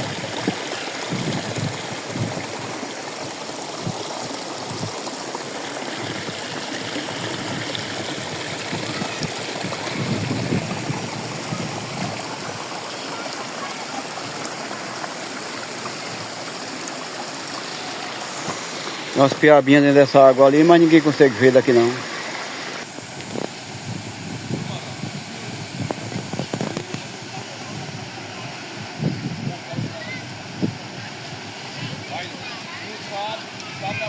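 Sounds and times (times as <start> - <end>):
stream water running: 0.0 - 34.0.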